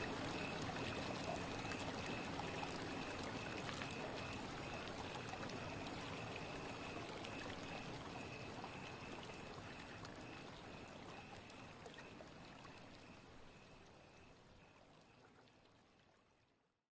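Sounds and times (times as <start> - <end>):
rushing water: 0.0 - 16.5.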